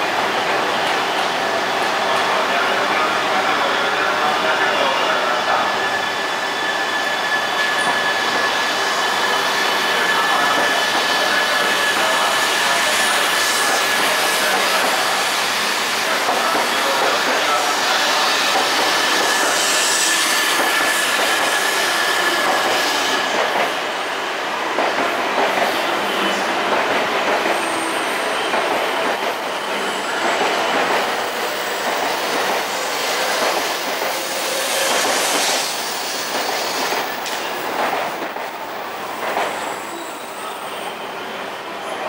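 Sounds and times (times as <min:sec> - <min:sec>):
train rolling noise: 0:00.0 - 0:41.1.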